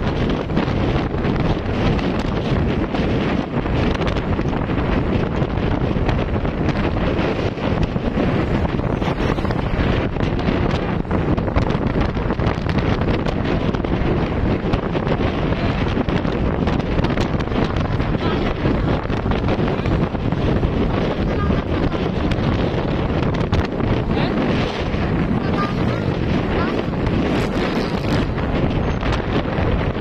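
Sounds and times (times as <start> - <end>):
motorcycle road and motor noise: 0.0 - 30.0
wind buffeting microphone: 0.0 - 30.0.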